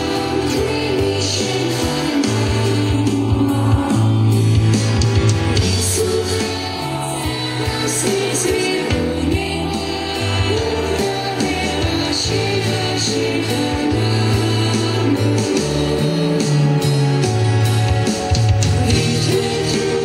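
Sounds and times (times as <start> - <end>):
children's choir singing: 0.0 - 4.4, 5.6 - 16.8, 18.8 - 20.0
bass: 0.0 - 20.0
drums: 0.0 - 20.0.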